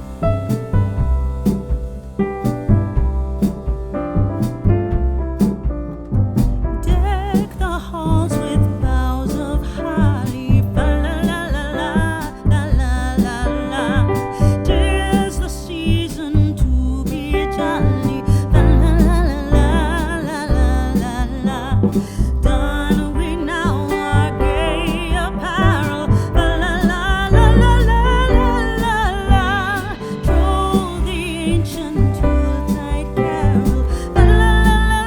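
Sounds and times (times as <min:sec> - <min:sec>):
bass beat: 0:00.0 - 0:35.0
piano chords: 0:00.0 - 0:35.0.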